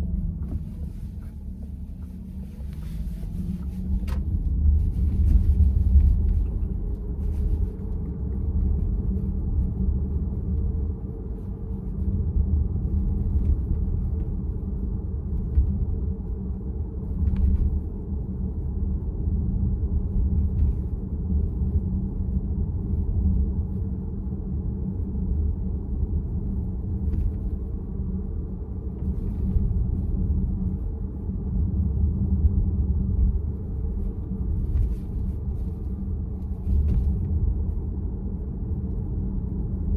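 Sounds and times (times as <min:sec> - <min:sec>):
road and tyre rumble in car: 0:00.0 - 0:39.9.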